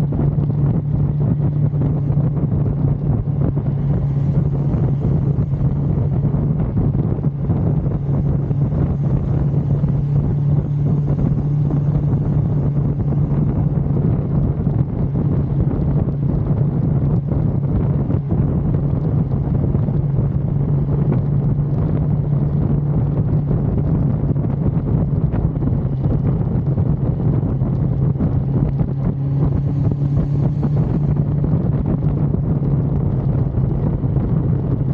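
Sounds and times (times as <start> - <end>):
motorcycle engine cruising: 0.0 - 34.9
wind buffeting microphone: 0.0 - 34.9.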